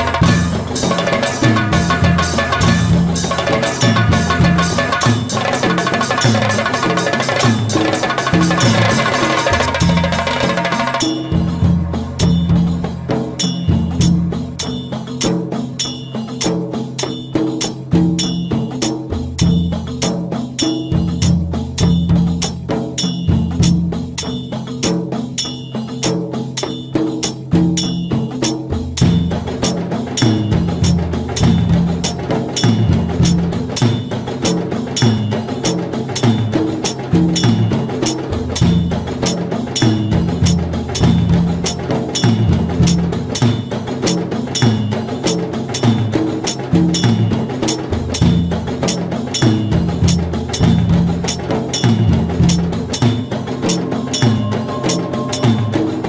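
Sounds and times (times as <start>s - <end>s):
music with percussive beat: 0.0s - 56.0s.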